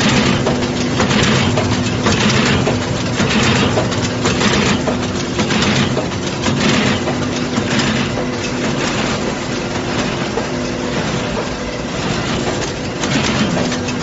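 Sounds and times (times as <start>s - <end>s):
motor hum: 0.0s - 14.0s
rhythmic mechanical clatter: 0.0s - 14.0s.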